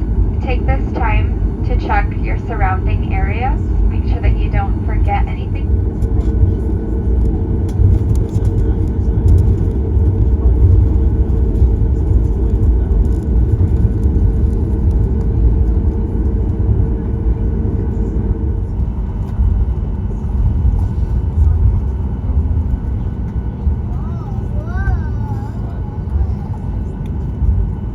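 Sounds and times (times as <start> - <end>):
jet engines idling in cabin: 0.0 - 27.9
steady hum: 0.0 - 27.9.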